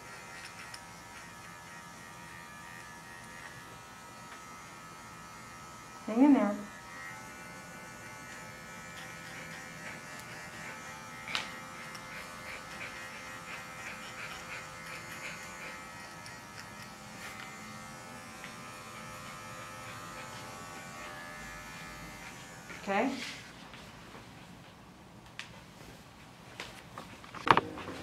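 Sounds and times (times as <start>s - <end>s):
electric clippers buzzing: 0.0s - 23.1s.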